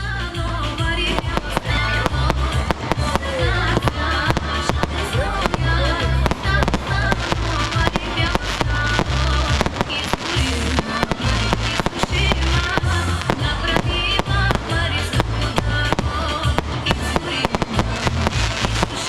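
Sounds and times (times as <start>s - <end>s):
music with heavy bass: 0.0s - 19.0s
fireworks bangs and cracks: 0.6s - 19.0s.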